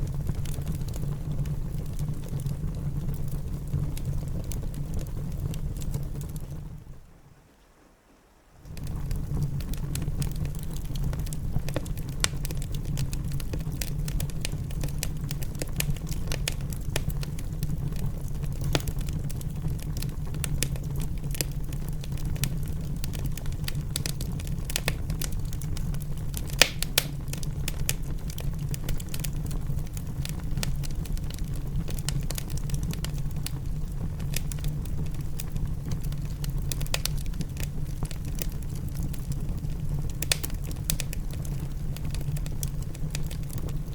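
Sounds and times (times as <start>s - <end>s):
wood fire crackling and popping: 0.0s - 7.1s, 8.6s - 43.9s
low rumble of fire: 0.0s - 7.8s, 8.4s - 43.9s.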